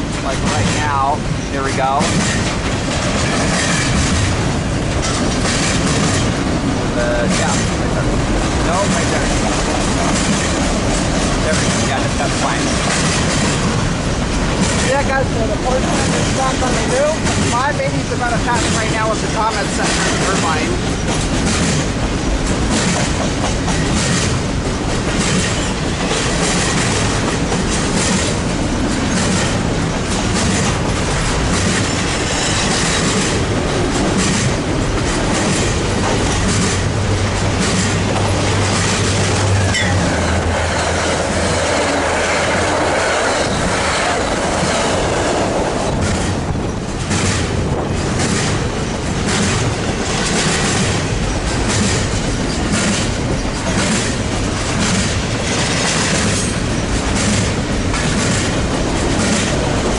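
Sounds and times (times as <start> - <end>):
clickety-clack over rail joints: 0.0 - 59.9
train wheels rumbling on rail: 0.0 - 59.9.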